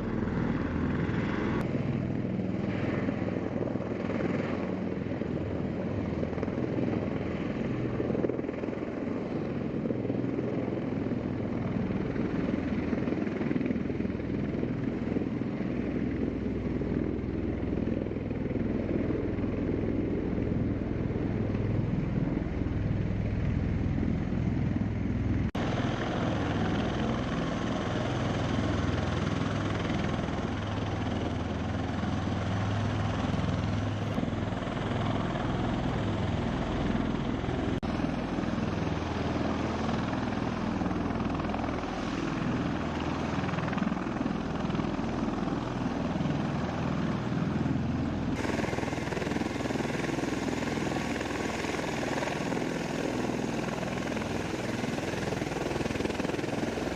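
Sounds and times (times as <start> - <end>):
tiltrotor aircraft droning: 0.0 - 56.9.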